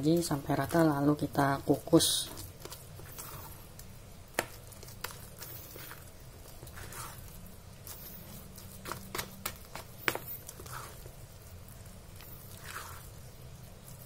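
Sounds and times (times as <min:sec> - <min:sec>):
spoon squelching in dough: 0:00.1 - 0:14.0.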